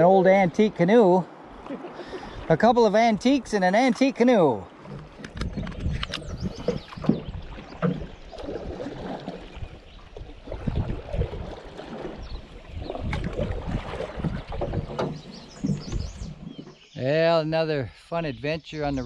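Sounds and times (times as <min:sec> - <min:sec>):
water washing along hull: 0:00.0 - 0:16.9
paddles splashing in water: 0:00.0 - 0:17.2.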